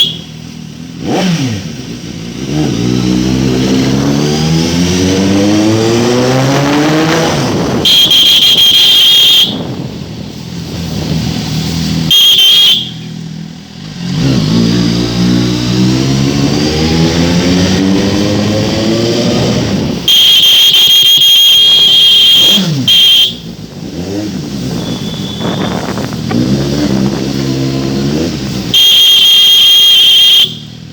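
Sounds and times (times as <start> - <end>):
loud exhaust blasts: 0.0 - 30.9
motorcycle engine revving: 0.0 - 30.9.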